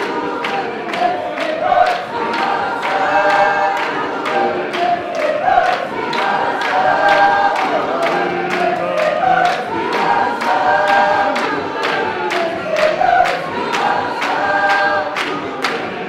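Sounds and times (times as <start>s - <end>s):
congregation singing a hymn: 0.0s - 16.0s.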